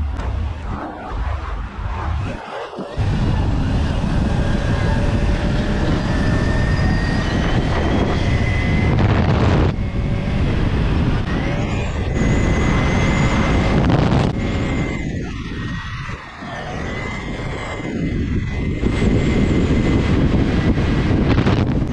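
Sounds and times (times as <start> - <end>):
motorcycle engine riding at speed: 0.0 - 21.9.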